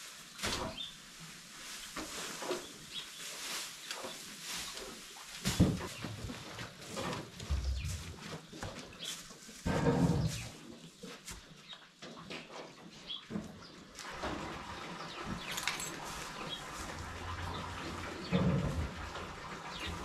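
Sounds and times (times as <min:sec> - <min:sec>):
straw rustling and crackling: 0:00.0 - 0:11.4, 0:13.8 - 0:20.0.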